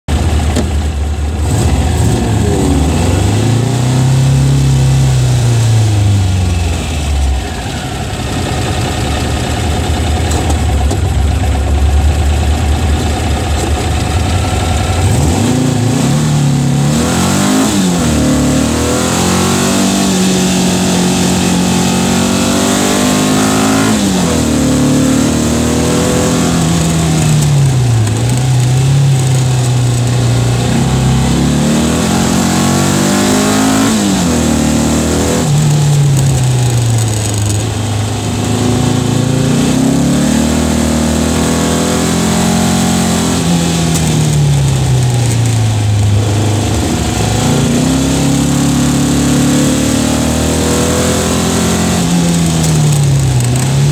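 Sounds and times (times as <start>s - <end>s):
car engine accelerating: 0.1s - 53.9s
wind and road noise: 0.1s - 53.9s.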